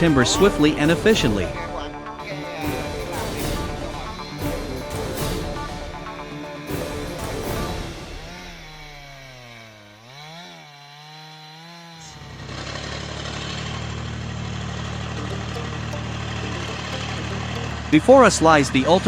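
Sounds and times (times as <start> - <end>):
loud steady machine noise: 0.0 - 10.4, 12.1 - 19.0
chainsaw cutting: 0.0 - 18.4.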